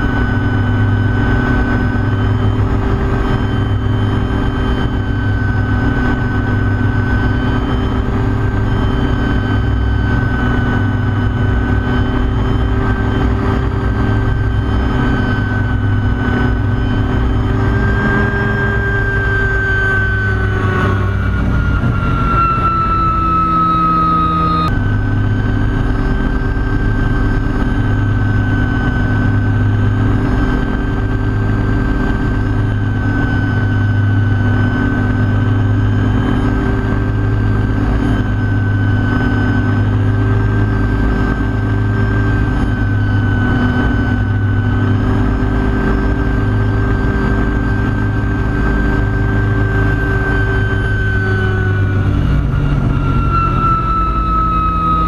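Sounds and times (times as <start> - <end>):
helicopter rotor drone: 0.0 - 55.0
helicopter turbine whine: 0.0 - 55.0.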